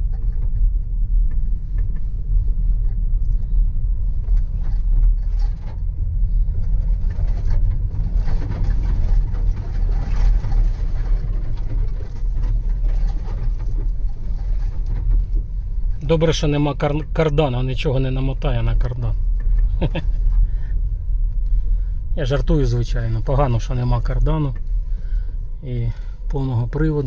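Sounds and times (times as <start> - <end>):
low rumble of tyres: 0.0 - 27.0.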